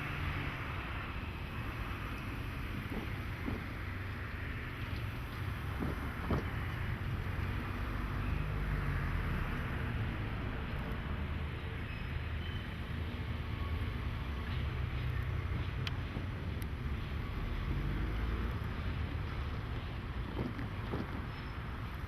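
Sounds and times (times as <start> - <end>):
diesel locomotive rumbling: 0.0 - 22.0.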